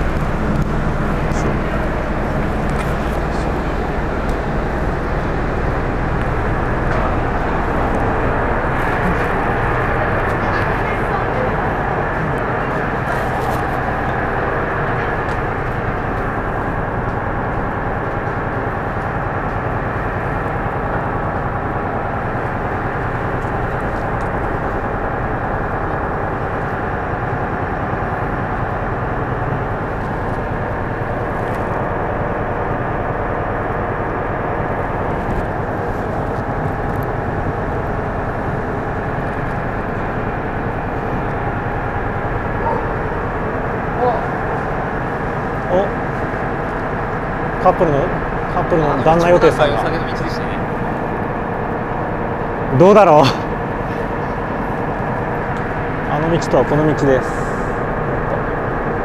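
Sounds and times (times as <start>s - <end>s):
ferry engines droning: 0.0s - 59.0s.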